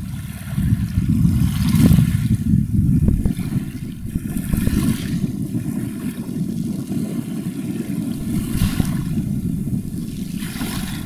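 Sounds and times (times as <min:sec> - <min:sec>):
ship wake water wash: 0:00.0 - 0:11.0
wind buffeting microphone: 0:00.0 - 0:11.0.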